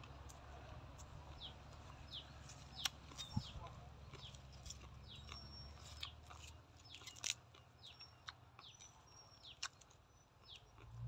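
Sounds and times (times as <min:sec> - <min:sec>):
food being chewed: 0:00.0 - 0:11.0
bird chirping: 0:01.3 - 0:10.8.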